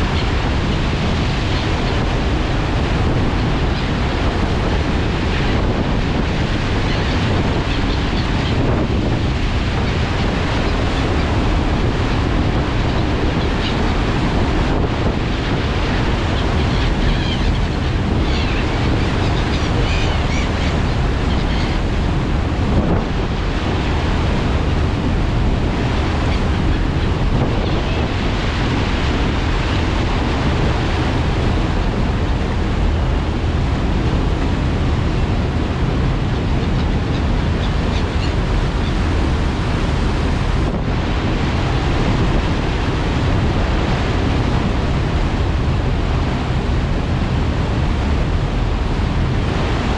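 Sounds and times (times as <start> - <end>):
ferry wake churning: 0.0 - 49.9
wind buffeting microphone: 0.0 - 49.9.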